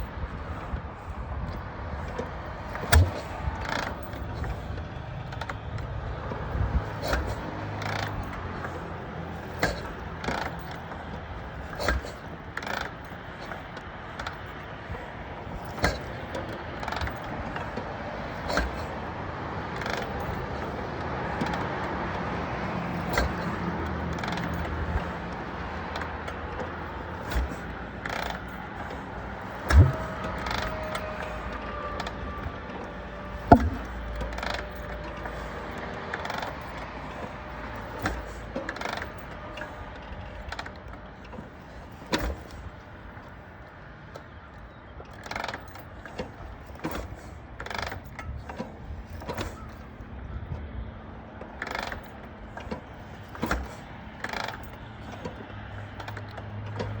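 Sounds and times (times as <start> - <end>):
motorcycle kick pedal clanks: 0.0 - 50.6, 51.4 - 57.0.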